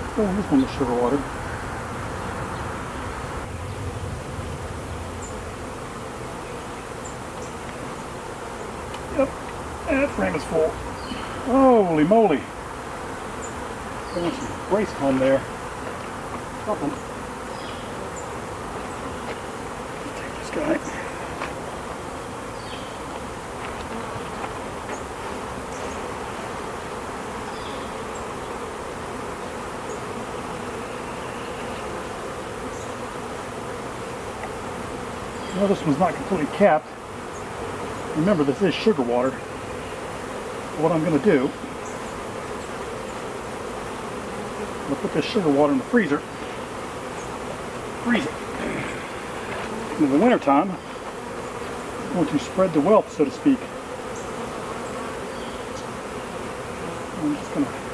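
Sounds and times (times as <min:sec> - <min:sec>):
honeybees buzzing: 0:00.0 - 0:57.9.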